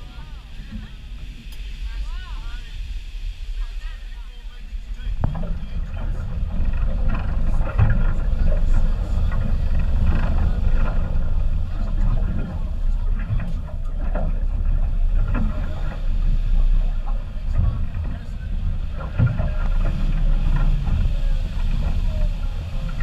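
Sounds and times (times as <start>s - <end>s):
boat engine low rumble: 0.0s - 23.0s
faint voices: 0.0s - 23.0s
wind on the microphone: 0.0s - 23.0s.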